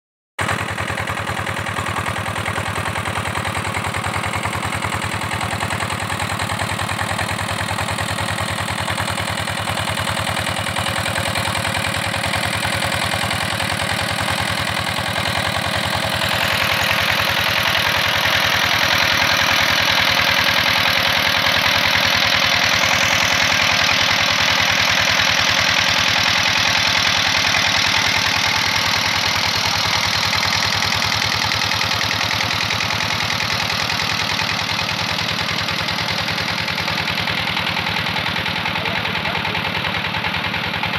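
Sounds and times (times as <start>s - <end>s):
diesel pump engine running: 0.4s - 40.9s.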